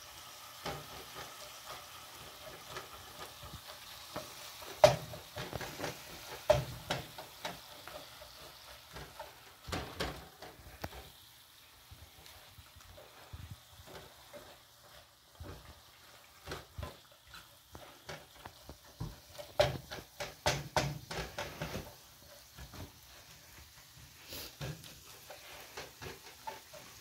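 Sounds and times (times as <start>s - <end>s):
faint meat sizzle: 0.0s - 27.0s
spatula scraping frying pan: 0.1s - 27.0s.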